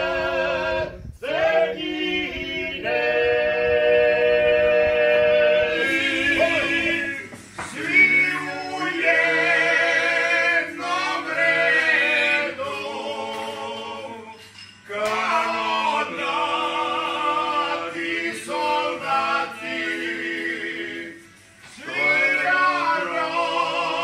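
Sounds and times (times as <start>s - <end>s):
men singing a cappella in harmony: 0.0s - 24.0s.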